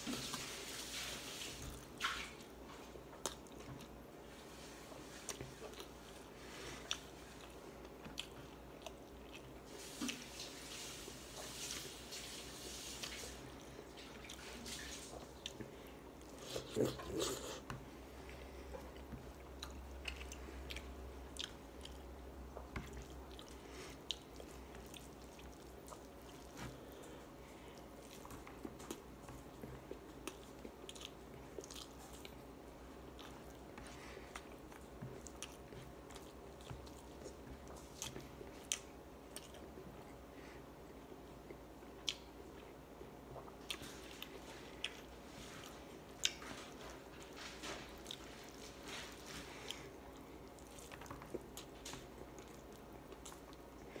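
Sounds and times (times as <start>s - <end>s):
person chewing: 2.0s - 4.0s, 5.0s - 10.4s, 13.0s - 40.2s, 41.4s - 54.0s.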